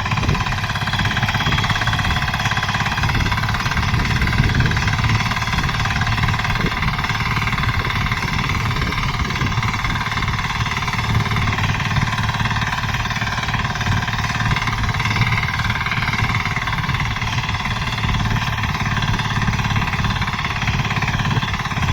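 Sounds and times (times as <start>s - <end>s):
power tiller engine chugging: 0.0s - 21.9s.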